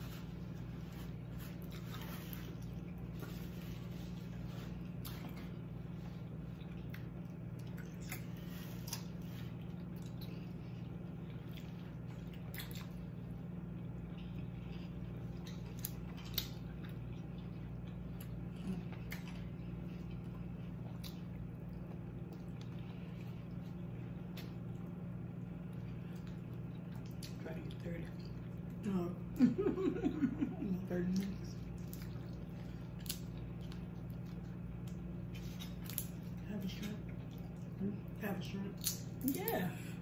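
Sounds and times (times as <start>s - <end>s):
chewing and wet mouth sounds: 0.0s - 29.0s, 30.9s - 40.0s
steady low hum: 0.0s - 40.0s.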